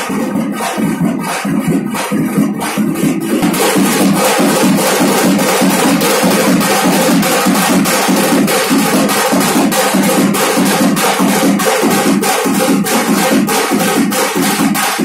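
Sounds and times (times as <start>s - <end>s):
drums in fast rhythm: 0.0s - 15.0s.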